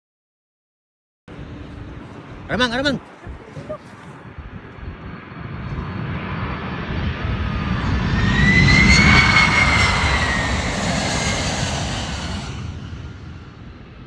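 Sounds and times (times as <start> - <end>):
jet airliner passing overhead: 1.3 - 14.0.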